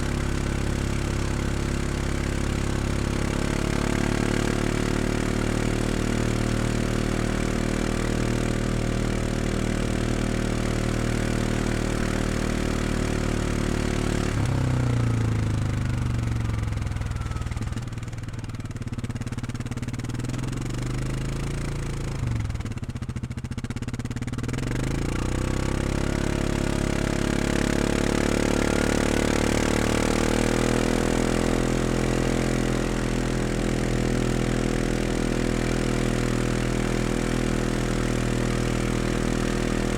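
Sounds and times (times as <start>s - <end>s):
atv engine idling and revving: 0.0s - 39.9s.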